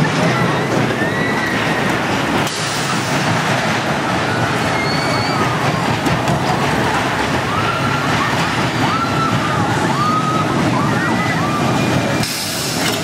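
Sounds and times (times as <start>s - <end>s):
roller coaster wheels rumbling: 0.0s - 13.0s.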